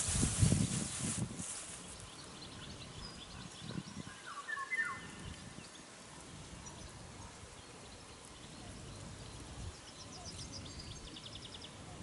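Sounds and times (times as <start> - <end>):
birds chirping: 1.7 - 12.0.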